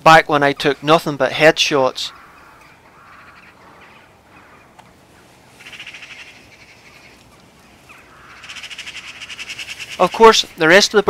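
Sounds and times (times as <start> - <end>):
corvids calling faintly: 0.0 - 11.0
rapid rattling bird chatter: 0.1 - 11.0.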